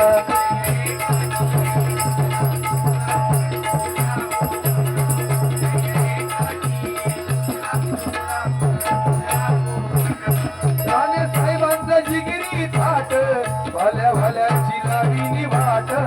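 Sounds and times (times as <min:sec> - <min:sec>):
hand drum fast rhythm: 0:00.0 - 0:16.0.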